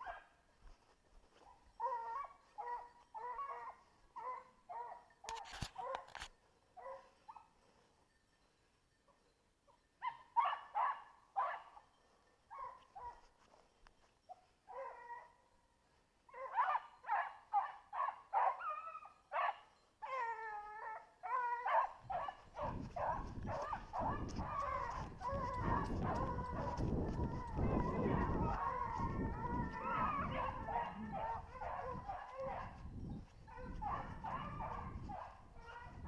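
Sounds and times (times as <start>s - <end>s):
hound baying and yelping: 1.4s - 7.7s, 10.0s - 11.9s, 12.5s - 13.3s, 14.3s - 15.4s, 16.3s - 36.0s.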